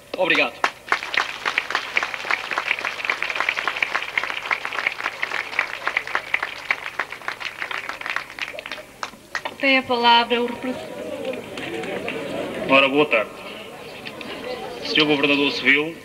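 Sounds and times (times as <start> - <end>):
audience applauding: 0.6 - 9.7, 10.3 - 15.8.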